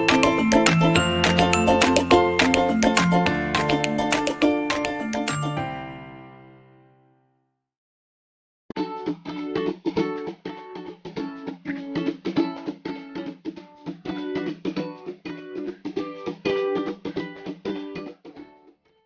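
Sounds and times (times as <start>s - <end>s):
plucked-string music: 0.0s - 6.7s, 8.8s - 18.8s.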